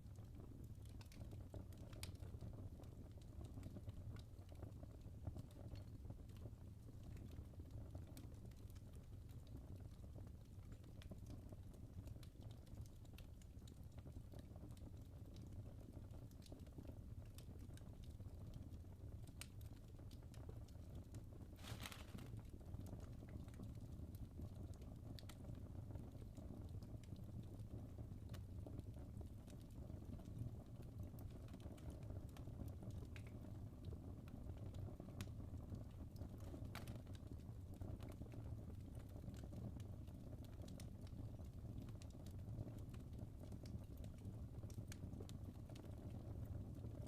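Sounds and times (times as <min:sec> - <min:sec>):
low rumble of flames: 0:00.0 - 0:47.0
fire snapping and popping: 0:00.1 - 0:47.0.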